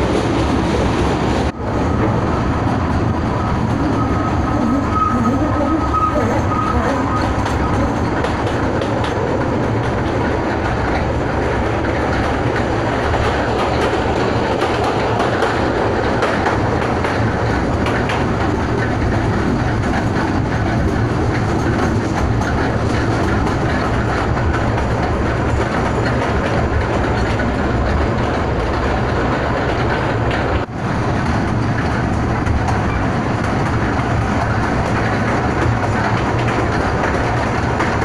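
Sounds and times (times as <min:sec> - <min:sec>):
wheels on rails: 0:00.0 - 0:38.0.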